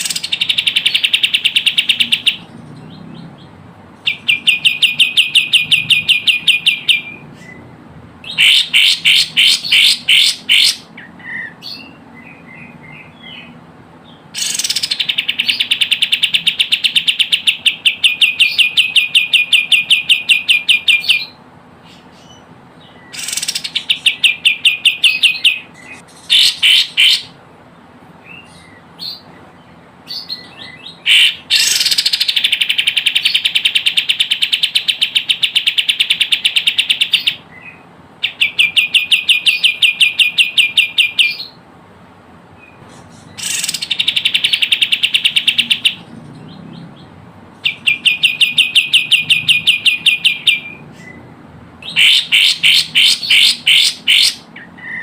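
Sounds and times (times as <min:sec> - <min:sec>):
bird chattering trills: 0:00.0 - 0:27.4, 0:28.3 - 0:41.6, 0:42.6 - 0:55.0.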